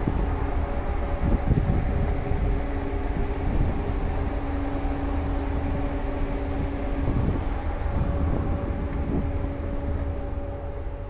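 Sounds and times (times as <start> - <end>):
ship machinery rumbling: 0.0 - 11.0.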